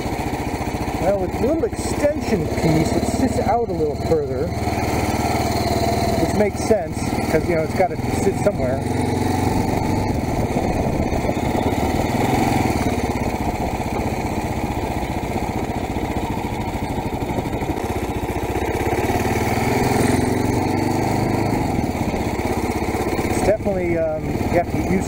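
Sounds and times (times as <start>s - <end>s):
single-cylinder motorcycle engine running: 0.0s - 25.0s.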